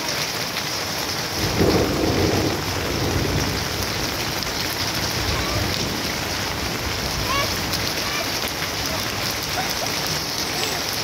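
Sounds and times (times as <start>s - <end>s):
heavy rain on leaves: 0.0s - 11.0s
thunder rumble: 1.3s - 10.3s.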